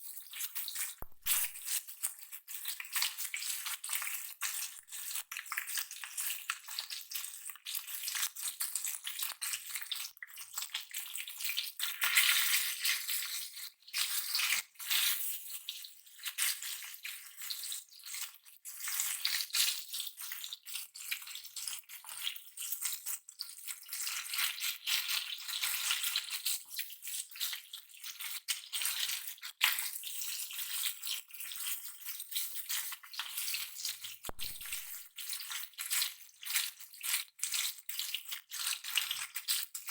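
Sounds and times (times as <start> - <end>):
fish sizzling in hot oil: 0.1 - 39.9.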